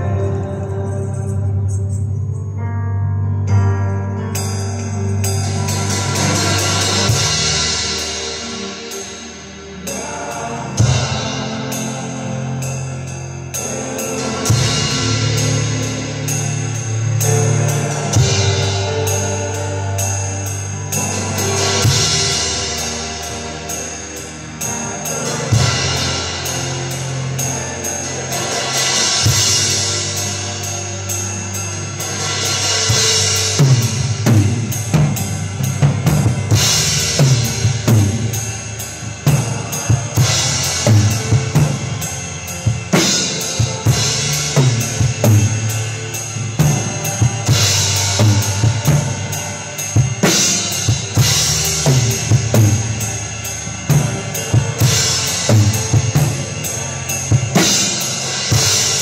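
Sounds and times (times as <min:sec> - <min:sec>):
bass: 0:00.0 - 0:59.0
drum kit beat: 0:04.3 - 0:59.0
cymbal crashes: 0:04.4 - 0:59.0.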